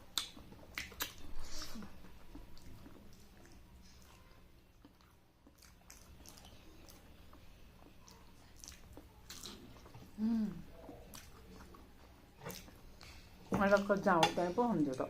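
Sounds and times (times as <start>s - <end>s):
wet chewing: 0.0s - 14.0s.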